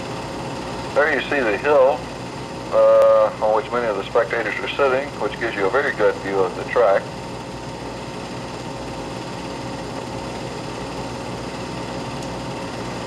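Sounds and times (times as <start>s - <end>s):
film projector whirring hum: 0.0s - 13.0s.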